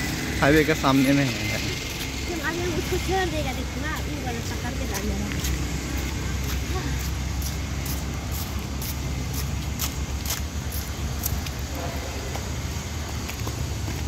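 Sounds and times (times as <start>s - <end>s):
footsteps on concrete: 1.6s - 14.0s.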